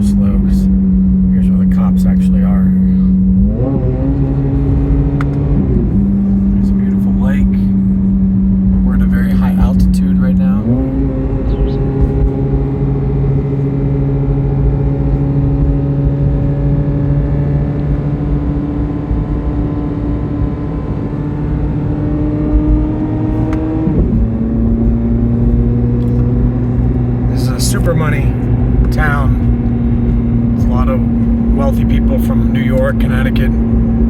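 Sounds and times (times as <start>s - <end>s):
car engine revving: 0.0s - 34.0s
road rumble: 0.0s - 34.0s.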